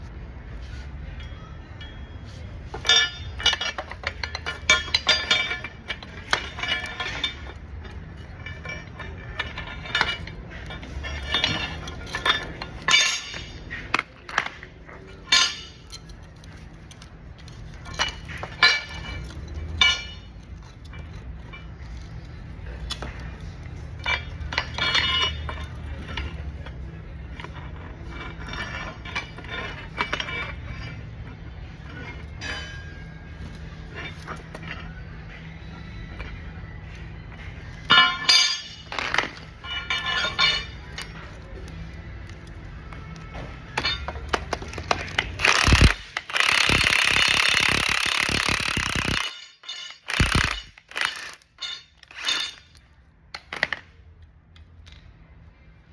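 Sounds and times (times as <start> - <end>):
metal tools clinking on steel: 0.6 - 54.0.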